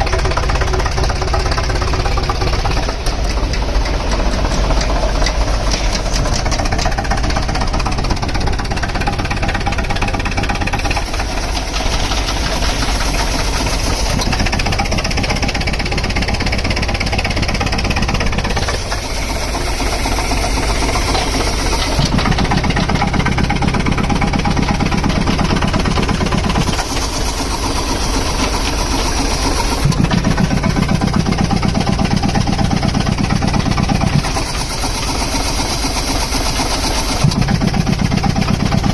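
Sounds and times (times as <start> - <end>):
compressor engine knocking: 0.0 - 38.9.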